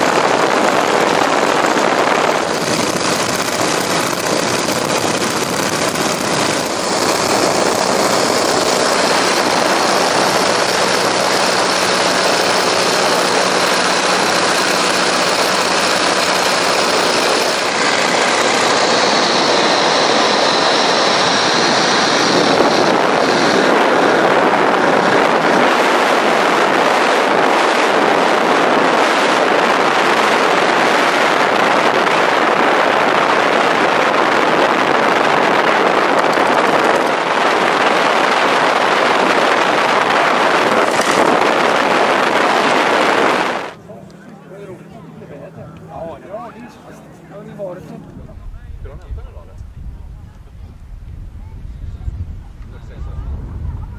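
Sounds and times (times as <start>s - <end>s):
loud constant rushing noise: 0.0s - 53.9s
propeller aircraft engine running: 0.0s - 53.9s.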